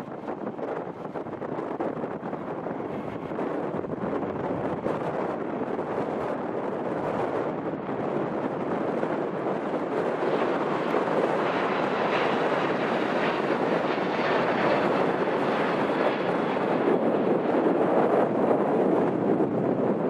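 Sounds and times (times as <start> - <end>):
jet engine rushing: 0.0 - 20.0
wind buffeting microphone: 0.0 - 20.0.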